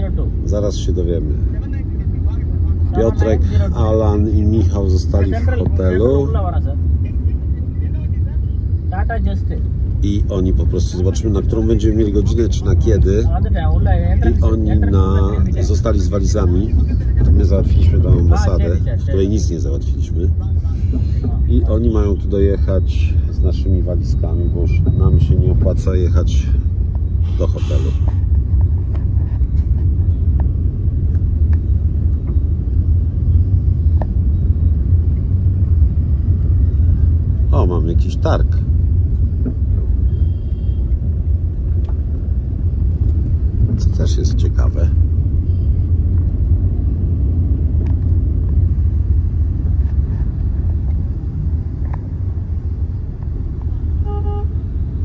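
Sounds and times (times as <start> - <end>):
vehicle rumble from on board: 0.0 - 55.0.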